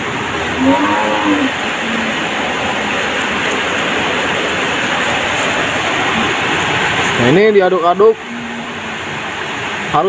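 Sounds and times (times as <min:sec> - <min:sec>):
steady loud rushing noise: 0:00.0 - 0:10.0.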